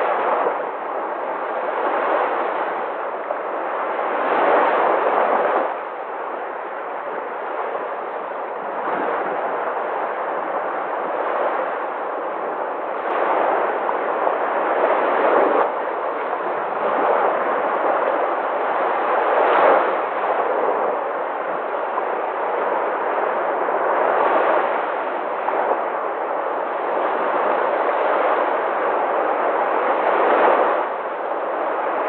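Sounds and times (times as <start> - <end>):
sea waves crashing on shore: 0.0 - 32.0.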